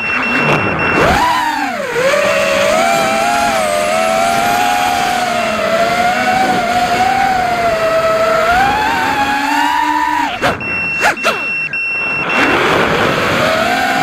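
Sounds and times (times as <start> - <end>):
drone motors whining: 0.0 - 14.0
wind noise on microphone: 0.3 - 14.0.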